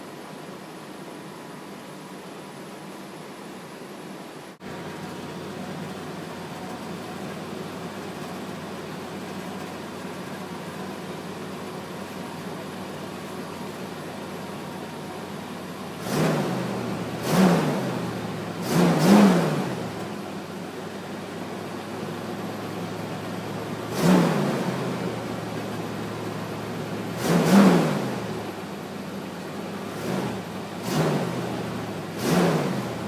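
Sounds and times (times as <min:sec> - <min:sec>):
engine idling and revving: 0:04.6 - 0:33.0.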